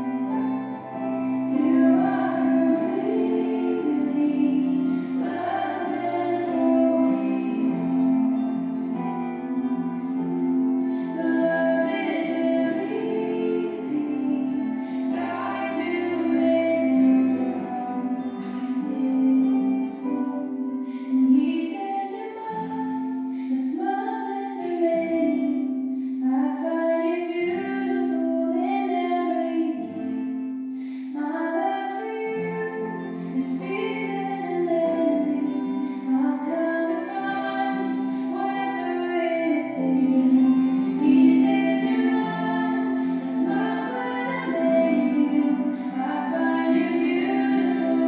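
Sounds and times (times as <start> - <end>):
woman singing a slow melody: 0.0 - 48.0.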